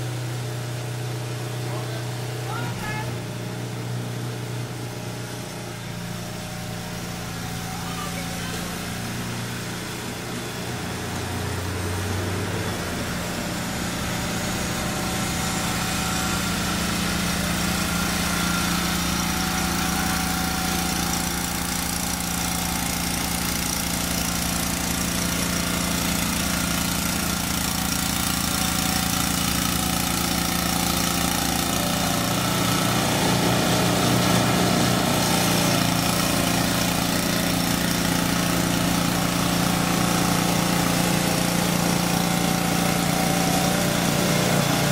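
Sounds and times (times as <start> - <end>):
snow blower engine running: 0.0 - 44.9.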